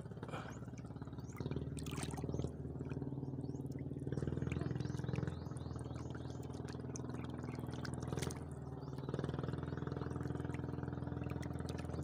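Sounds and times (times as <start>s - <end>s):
steady low motor hum: 0.0s - 12.0s.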